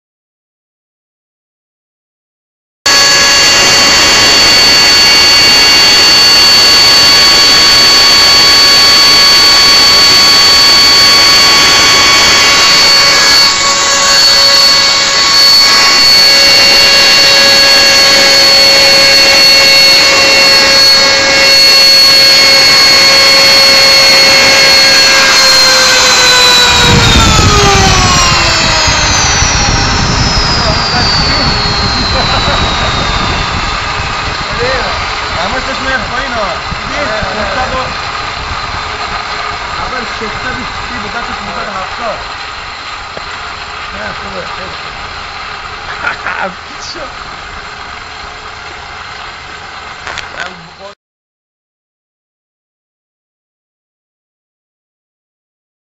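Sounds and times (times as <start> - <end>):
turbojet engine whine and roar: 2.9 - 51.0.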